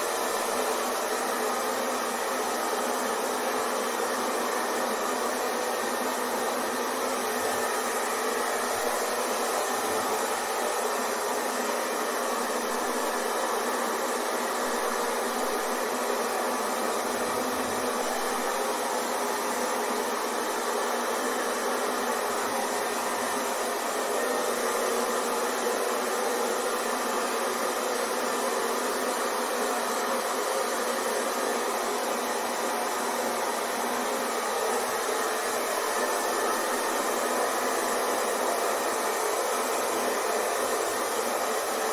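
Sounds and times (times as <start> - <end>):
hair dryer running: 0.0 - 41.9.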